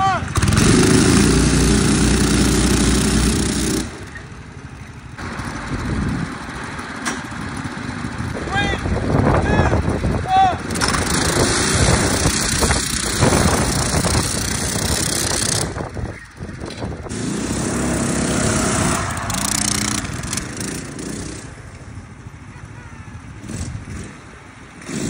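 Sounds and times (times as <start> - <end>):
small engines running hard: 0.3 - 9.4, 10.0 - 25.0.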